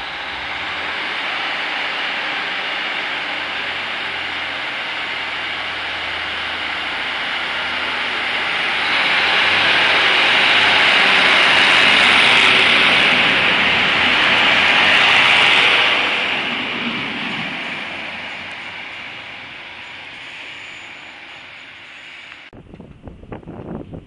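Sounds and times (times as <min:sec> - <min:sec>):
diesel train passing: 0:00.0 - 0:23.7.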